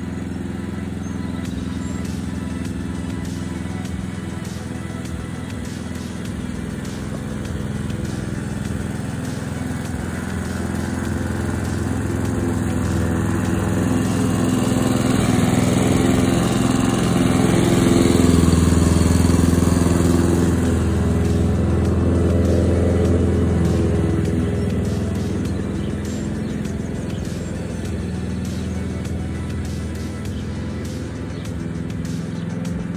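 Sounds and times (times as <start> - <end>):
lawn mower engine running: 0.0 - 32.9.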